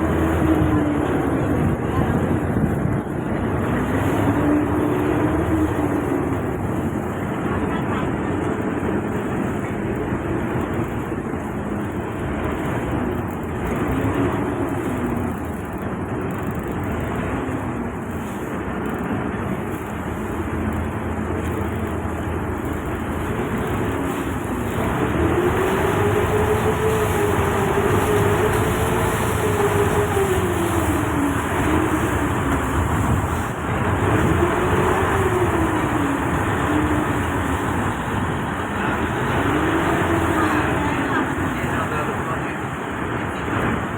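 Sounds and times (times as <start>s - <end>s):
boat engine running: 0.0s - 43.9s
water noise: 0.0s - 43.9s.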